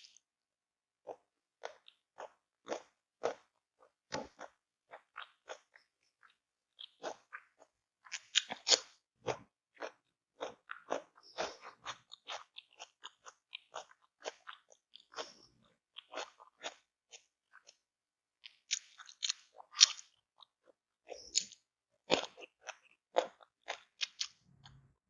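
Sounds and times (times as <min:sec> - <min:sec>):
person chewing crunchy food: 0:01.0 - 0:17.8, 0:18.4 - 0:25.0.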